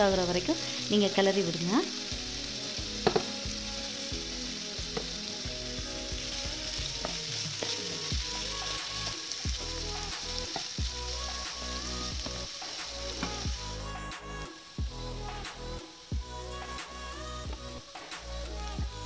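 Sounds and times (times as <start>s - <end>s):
potatoes sizzling in a pan: 0.0s - 19.0s.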